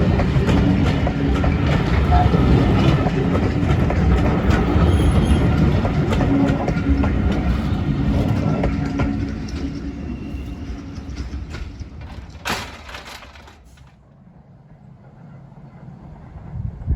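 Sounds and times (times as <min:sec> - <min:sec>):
wheels clicking over rail joints: 0:00.0 - 0:14.0
diesel train rumbling past: 0:00.0 - 0:16.9.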